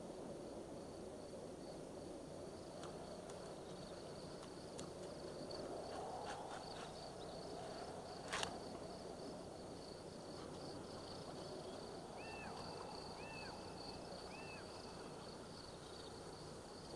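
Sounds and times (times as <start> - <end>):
insect trill: 0.1 - 16.9.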